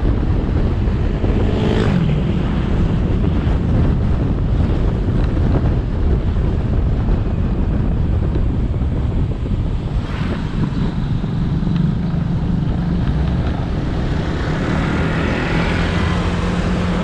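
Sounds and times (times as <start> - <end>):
tyres on the road: 0.0 - 17.0
wind buffeting microphone: 0.0 - 17.0
motorcycle engine: 0.3 - 17.0.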